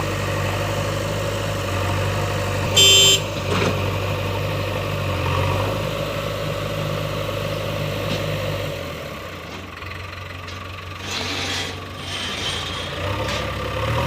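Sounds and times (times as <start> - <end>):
heavy diesel machinery idling: 0.0 - 14.0.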